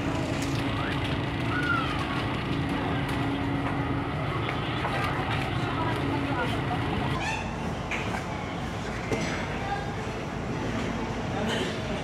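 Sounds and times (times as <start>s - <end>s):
ferry machinery rumble and hum: 0.0s - 12.0s.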